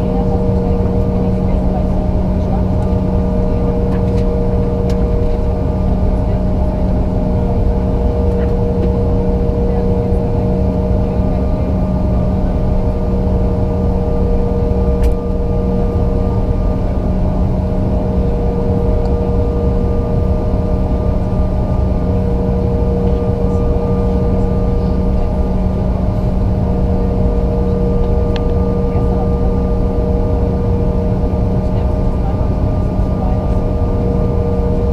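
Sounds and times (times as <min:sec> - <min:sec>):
jet engines rumbling and whining: 0:00.0 - 0:34.9.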